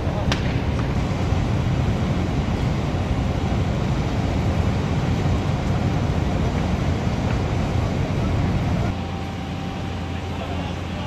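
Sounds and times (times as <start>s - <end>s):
gas flame roaring: 0.0s - 11.0s.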